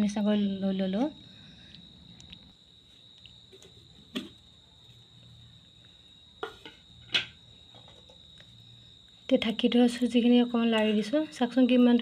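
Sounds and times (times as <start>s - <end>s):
cricket chirring: 0.0s - 12.0s.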